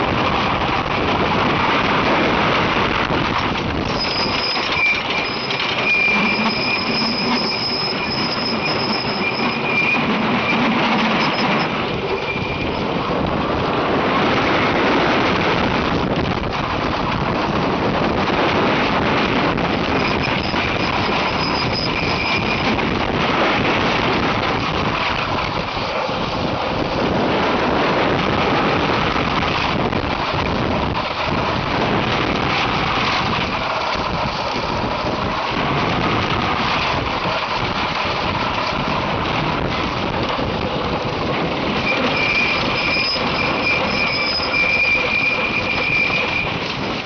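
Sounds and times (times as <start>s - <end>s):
roller coaster rattling rumble: 0.0s - 47.0s.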